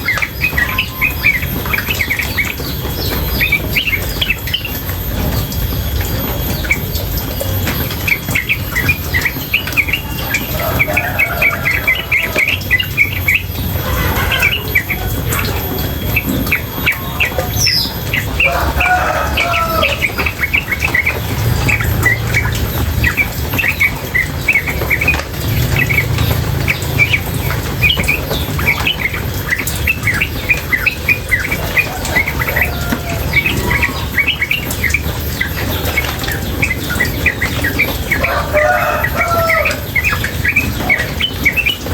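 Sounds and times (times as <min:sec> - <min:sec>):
bird chirping rapidly: 0:00.0 - 0:41.9
low water sound: 0:00.0 - 0:41.9.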